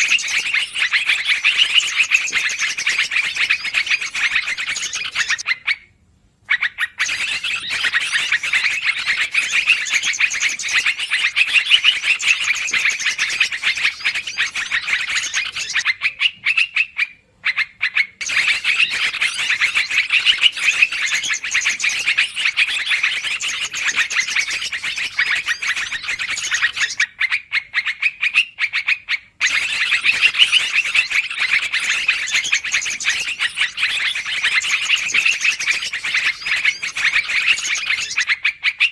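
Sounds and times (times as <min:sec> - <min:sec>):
bulbuls chattering: 0:00.0 - 0:05.4, 0:07.0 - 0:16.3, 0:18.2 - 0:27.0, 0:29.4 - 0:38.3.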